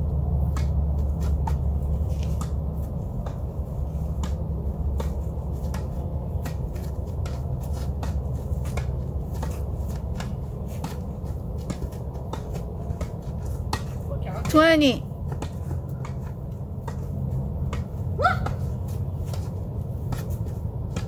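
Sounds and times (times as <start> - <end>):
steady low rumble: 0.0 - 21.0
tennis balls struck by rackets: 0.2 - 21.0.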